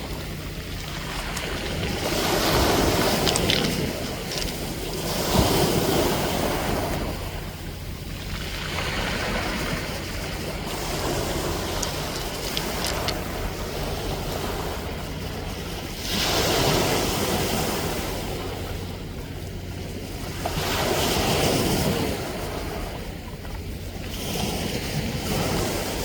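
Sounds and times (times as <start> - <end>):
ocean waves washing ashore: 0.0 - 26.0
wind rumble on microphone: 0.0 - 26.0.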